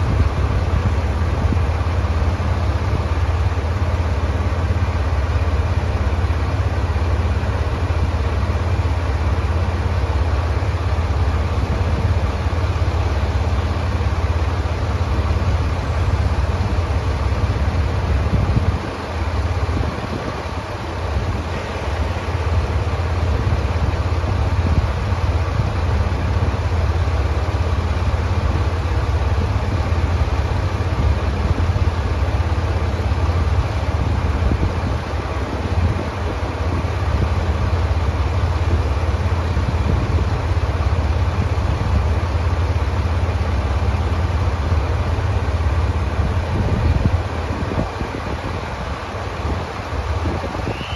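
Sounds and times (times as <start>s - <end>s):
railcar diesel engine humming: 0.0s - 50.9s.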